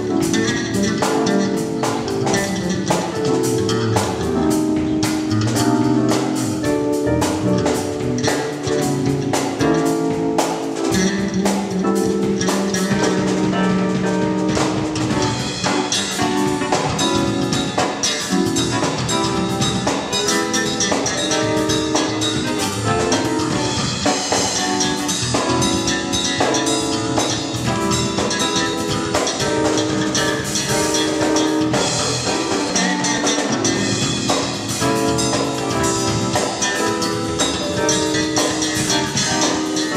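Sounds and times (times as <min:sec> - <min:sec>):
band playing gospel groove: 0:00.0 - 0:39.9.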